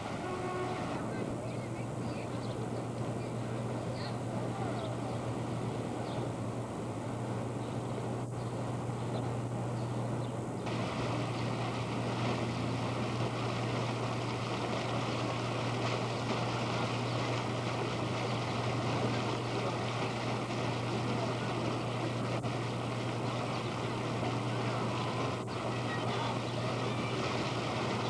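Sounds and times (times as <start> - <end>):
fountain water splashing: 0.0 - 9.8, 10.4 - 28.0
low steady hum: 0.0 - 28.0
street traffic: 0.0 - 28.0.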